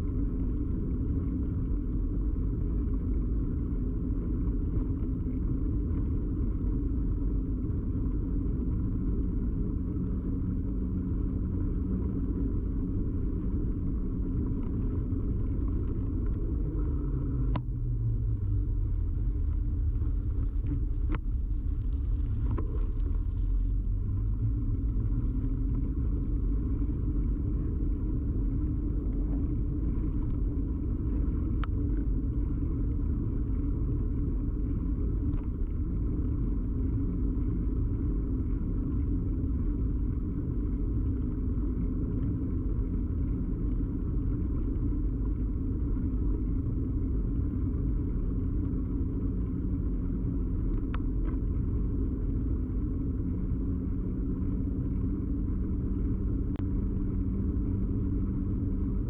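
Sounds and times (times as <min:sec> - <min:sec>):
bicycle tyre rumble: 0:00.0 - 0:59.0
low hum: 0:00.0 - 0:59.0.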